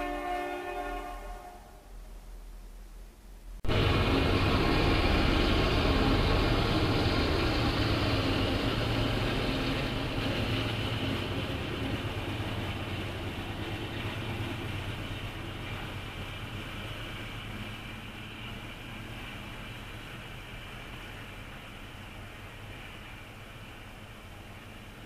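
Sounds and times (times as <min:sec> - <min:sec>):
freight train rolling on rails: 0:00.0 - 0:02.8, 0:03.4 - 0:25.0
diesel locomotive engine drone: 0:00.0 - 0:25.0.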